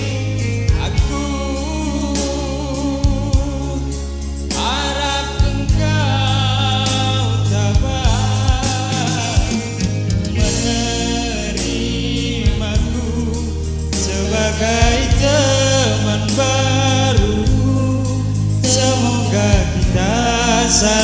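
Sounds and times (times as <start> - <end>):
keyboard band accompaniment: 0.0 - 21.0
man singing into a microphone: 0.0 - 21.0.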